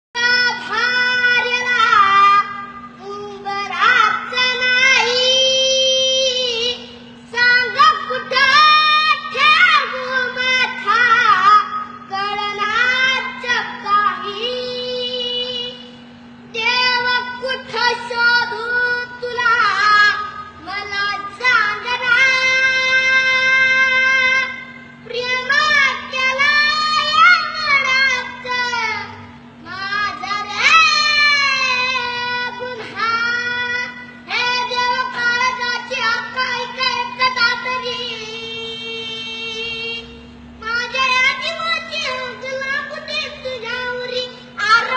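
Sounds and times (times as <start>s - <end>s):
steady low hum: 0.2s - 44.9s.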